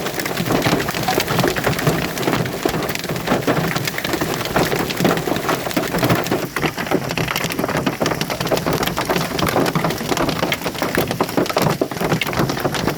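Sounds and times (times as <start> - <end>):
hailstones pelting down: 0.0 - 12.9.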